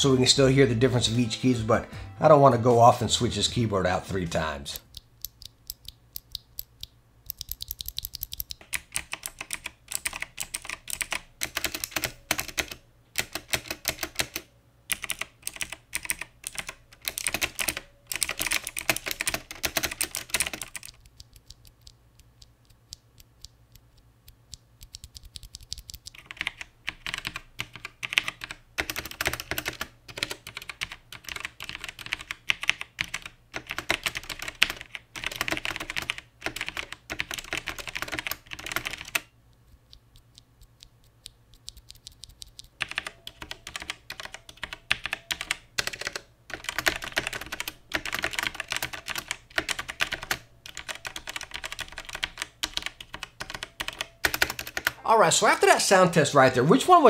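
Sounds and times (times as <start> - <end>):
mechanical keyboard typing: 4.4 - 55.0.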